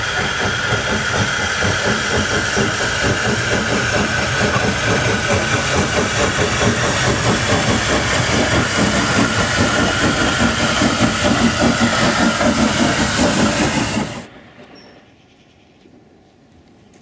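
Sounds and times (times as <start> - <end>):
loud hiss of steam: 0.0 - 14.3
steam locomotive exhaust beats: 0.0 - 14.8.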